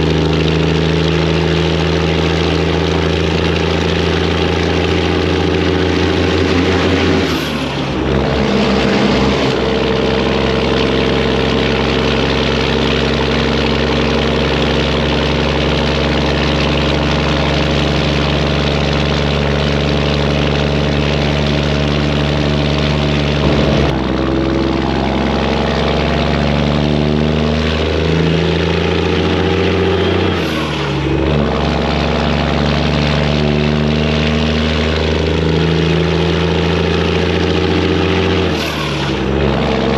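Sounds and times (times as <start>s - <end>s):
truck engine working hard: 0.0s - 39.9s.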